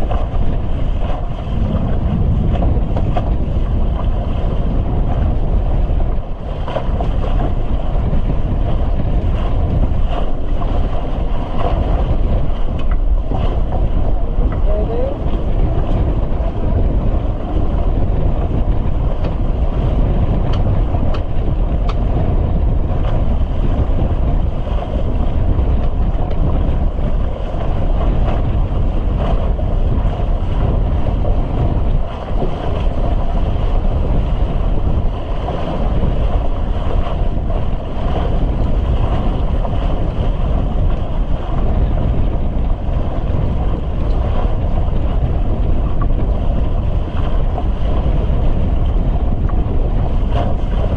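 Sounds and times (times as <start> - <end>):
gale wind blasting microphone: 0.0 - 50.9
loud low rumbling: 0.0 - 50.9
rushing sea water: 0.0 - 50.9.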